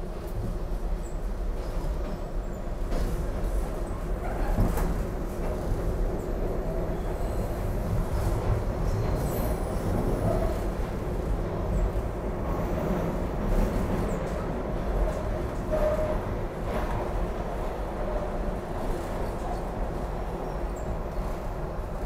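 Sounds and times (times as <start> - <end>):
subway wheels rumbling on rails: 0.0 - 22.0
faint rail clacks: 0.1 - 22.0.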